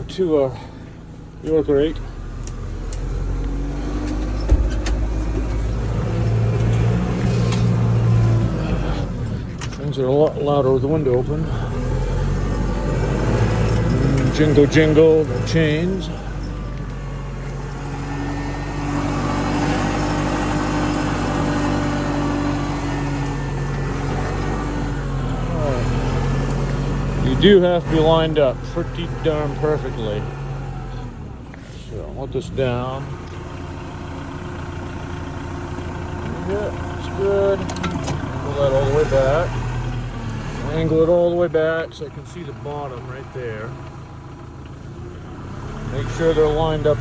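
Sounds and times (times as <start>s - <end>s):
tire chains jingling: 0.0s - 30.3s, 31.6s - 47.0s
tractor diesel engine running: 0.0s - 47.0s.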